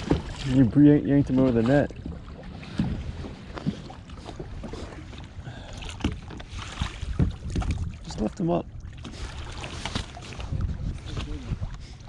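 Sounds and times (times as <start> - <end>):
knocks and thumps on boat: 0.0 - 11.8
water noise: 0.0 - 12.0
wind: 0.0 - 12.0.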